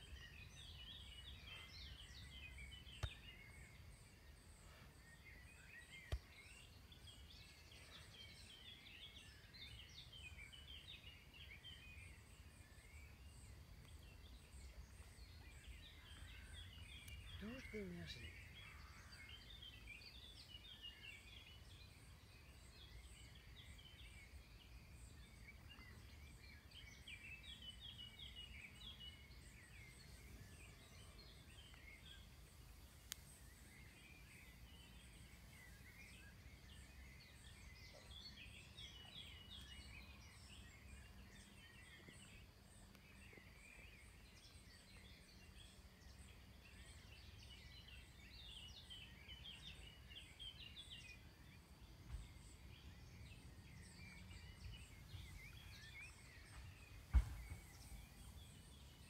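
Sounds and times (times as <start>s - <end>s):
faint birdsong chirps: 0.0s - 59.0s
low outdoor background noise: 0.0s - 59.0s.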